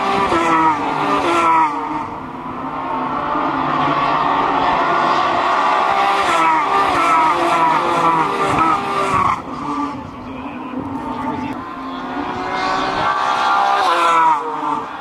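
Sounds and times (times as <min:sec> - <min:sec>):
race cars passing at speed: 0:00.0 - 0:15.0.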